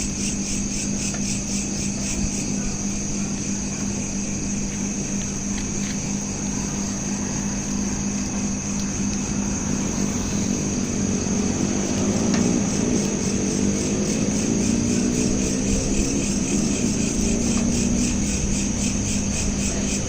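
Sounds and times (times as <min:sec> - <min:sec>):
crickets chirping: 0:00.0 - 0:20.0
low engine hum: 0:02.5 - 0:20.0
motor vehicle approaching: 0:03.0 - 0:20.0.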